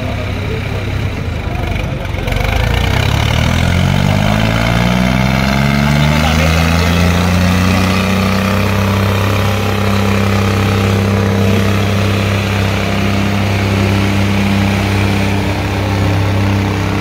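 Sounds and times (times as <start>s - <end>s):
tractor engines under heavy load: 0.0s - 17.0s.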